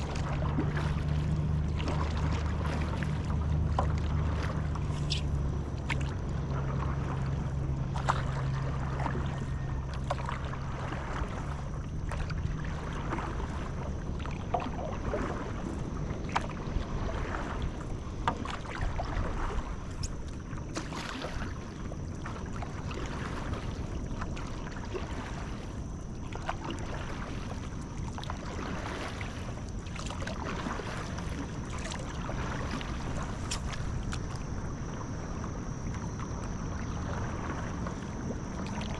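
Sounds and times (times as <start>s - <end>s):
paddle strokes in water: 0.0s - 38.9s
wind rumble on microphone: 0.0s - 38.9s.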